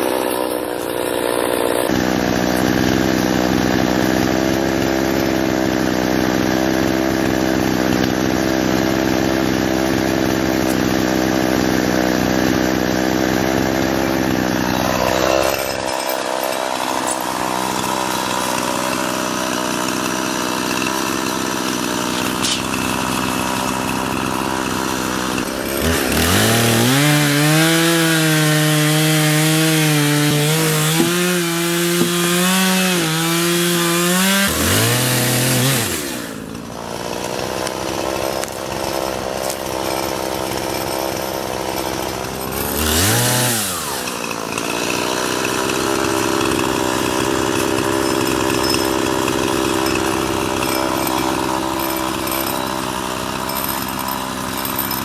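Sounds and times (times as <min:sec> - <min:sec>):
chainsaw cutting wood: 0:00.0 - 0:55.0
chainsaw idling: 0:00.0 - 0:55.0.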